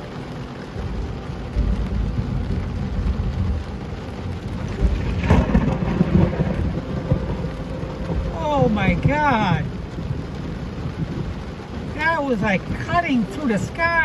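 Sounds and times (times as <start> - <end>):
heavy rain: 0.0 - 14.0
thunder rumble and crackle: 0.0 - 14.0.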